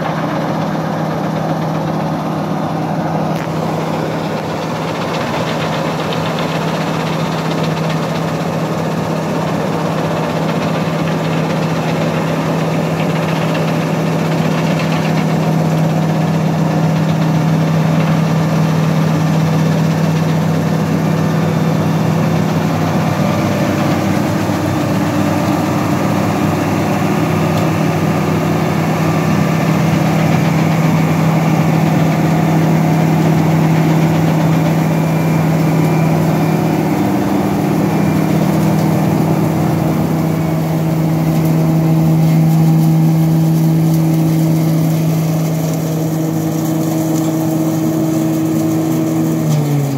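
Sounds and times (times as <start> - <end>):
diesel engine drone: 0.0 - 49.9
machinery rattle: 0.0 - 49.9.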